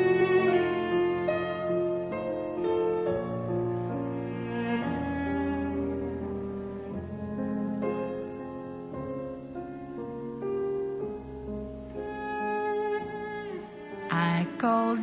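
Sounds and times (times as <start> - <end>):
cello bowed notes: 0.0 - 10.0, 11.1 - 15.0
piano chords: 0.0 - 15.0.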